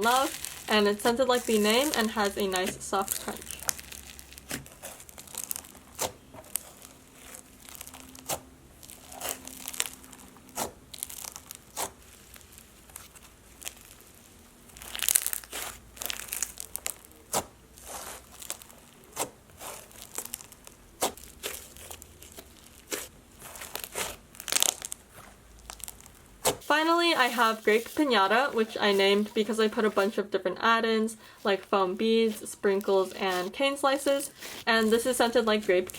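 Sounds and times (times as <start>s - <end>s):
slime crackling when squeezed: 0.0s - 29.6s.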